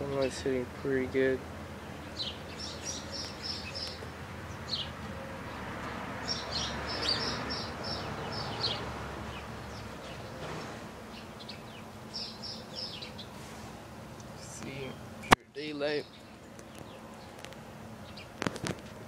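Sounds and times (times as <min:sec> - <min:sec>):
outdoor background noise: 0:00.0 - 0:19.0
songbirds chirping: 0:00.0 - 0:19.0.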